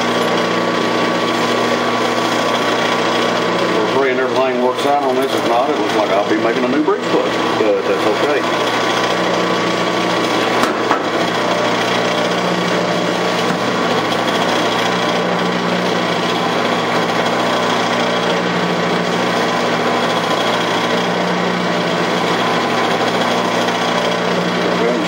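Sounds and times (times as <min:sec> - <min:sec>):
metal lathe motor hum: 0:00.0 - 0:25.0.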